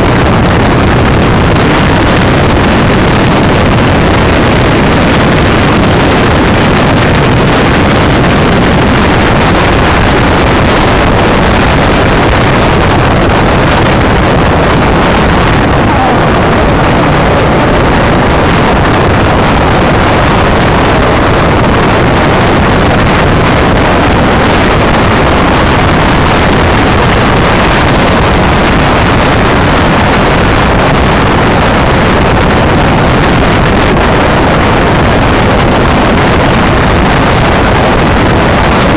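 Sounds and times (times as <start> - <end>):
road noise: 0.0 - 38.9
wind rush: 0.0 - 38.9.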